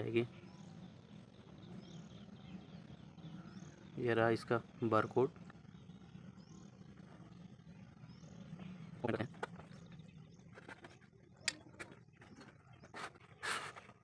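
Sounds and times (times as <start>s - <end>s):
faint bird calls: 0.0s - 14.0s.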